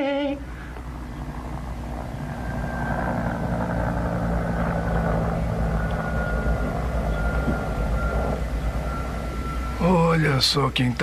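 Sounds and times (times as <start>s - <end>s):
aircraft engine rumbling: 0.0s - 11.0s
high whine falling in pitch: 0.0s - 11.0s.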